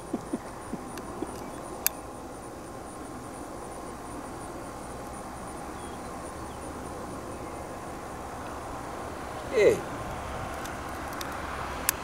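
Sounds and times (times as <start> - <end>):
insects chirring: 0.0 - 12.0
outdoor hiss: 0.0 - 12.0.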